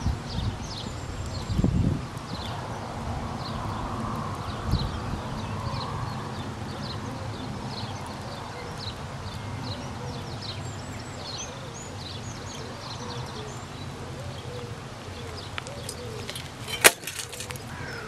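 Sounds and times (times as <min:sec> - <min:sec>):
birds chirping: 0:03.3 - 0:18.0.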